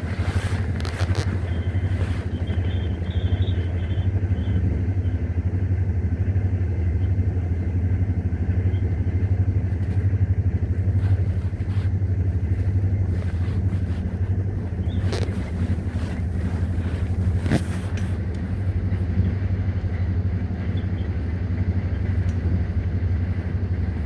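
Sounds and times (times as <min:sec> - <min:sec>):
vehicle rumbling: 0:00.0 - 0:24.0.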